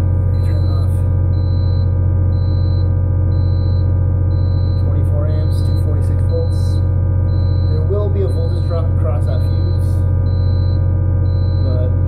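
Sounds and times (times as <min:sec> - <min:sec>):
power inverter humming loudly: 0:00.0 - 0:12.0
faint high beep: 0:00.4 - 0:08.8, 0:09.4 - 0:11.9.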